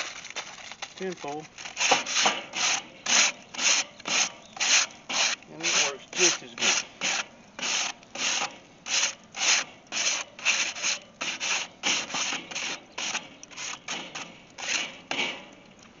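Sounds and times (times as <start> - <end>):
foil scraping metal grill grate: 0.0 - 15.6.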